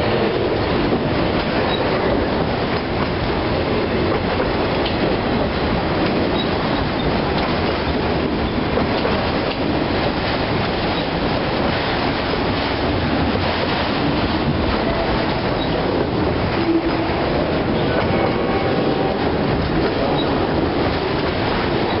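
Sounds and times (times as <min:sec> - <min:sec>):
freight train rumbling and rattling: 0:00.0 - 0:22.0.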